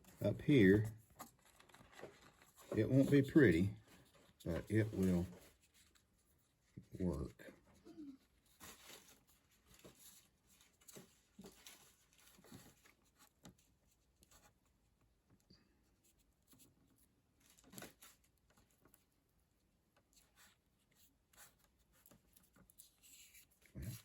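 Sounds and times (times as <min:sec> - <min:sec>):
faint rustles and clicks of wire: 0:00.0 - 0:24.0.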